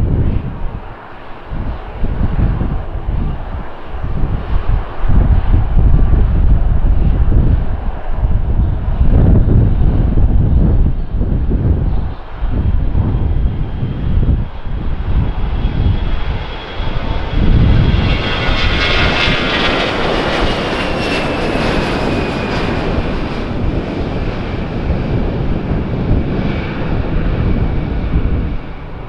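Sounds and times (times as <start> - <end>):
jet engines at takeoff thrust: 0.0 - 29.0.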